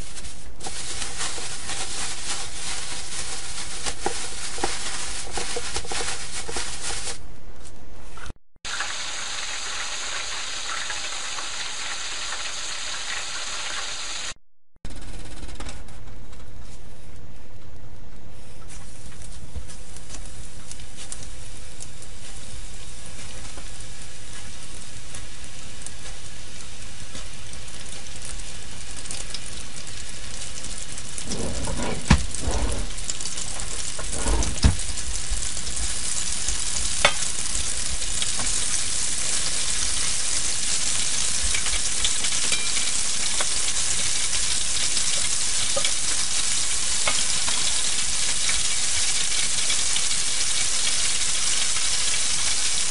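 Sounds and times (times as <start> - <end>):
chicken deep-frying in oil: 0.0 - 7.2, 8.6 - 14.4, 18.4 - 52.9.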